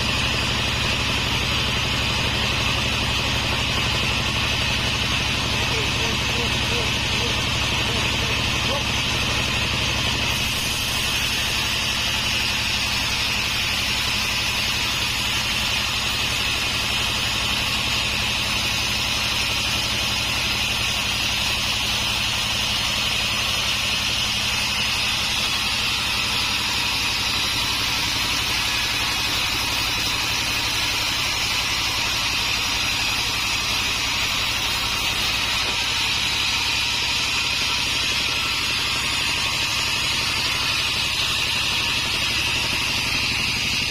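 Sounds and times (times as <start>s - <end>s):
low motor hum: 0.0s - 18.9s, 20.2s - 43.9s
sawmill high whine: 0.0s - 43.9s.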